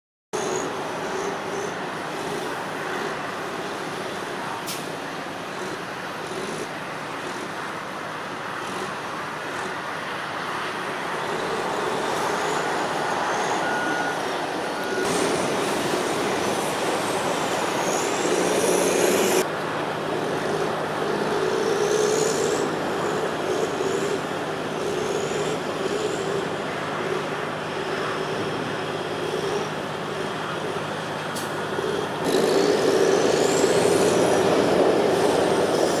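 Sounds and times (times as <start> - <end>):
heavy diesel engines running: 0.4 - 36.0.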